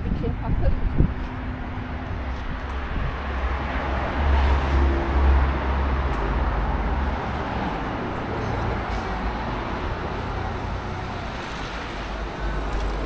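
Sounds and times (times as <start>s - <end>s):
city street noise: 0.0s - 13.0s.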